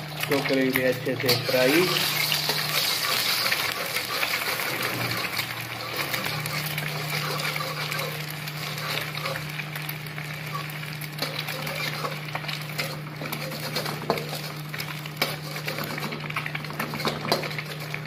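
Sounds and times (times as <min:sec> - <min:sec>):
egg sizzling in hot oil: 0:00.0 - 0:18.0.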